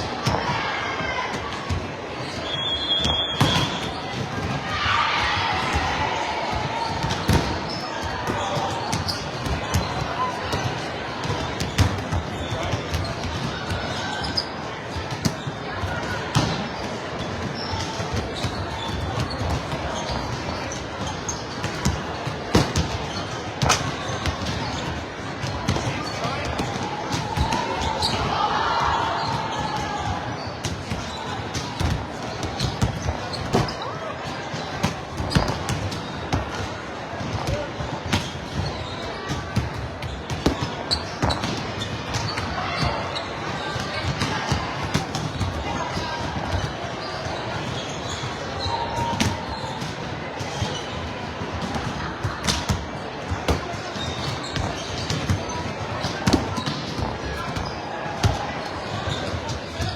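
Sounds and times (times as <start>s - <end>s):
din of busy gym hall: 0.0s - 59.9s
murmur of voices: 0.0s - 59.9s
volleyballs hit and bouncing: 0.0s - 59.9s.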